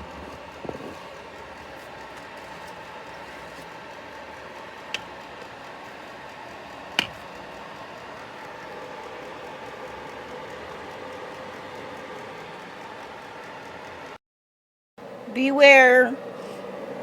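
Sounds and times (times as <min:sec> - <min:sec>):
space heater fan hum: 0:00.0 - 0:14.2, 0:15.0 - 0:17.0.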